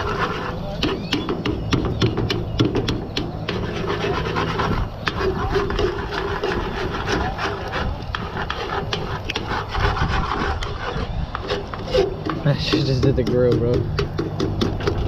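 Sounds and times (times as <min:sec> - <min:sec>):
utensil scraping pan: 0:00.0 - 0:15.0.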